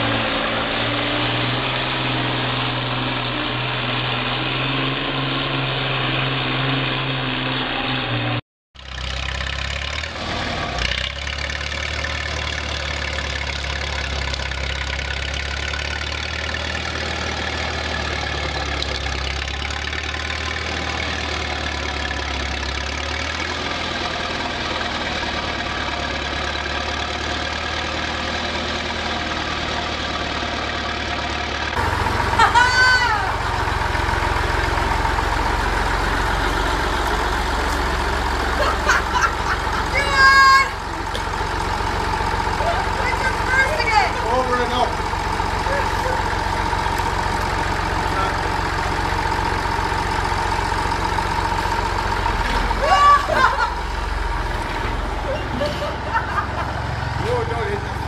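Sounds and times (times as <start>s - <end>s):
large machine engine running: 0.0s - 58.0s.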